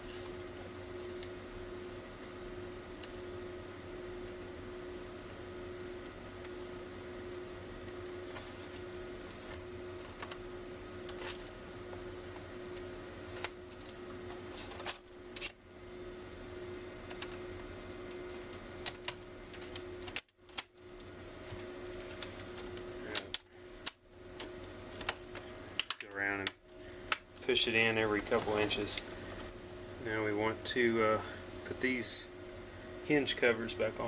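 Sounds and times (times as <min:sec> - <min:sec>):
steady hum: 0:00.0 - 0:34.0.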